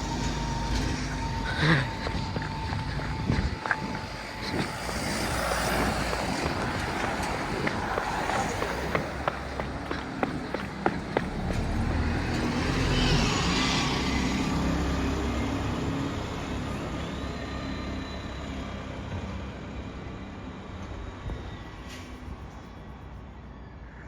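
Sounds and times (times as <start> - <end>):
bus passing by: 0.0 - 24.0.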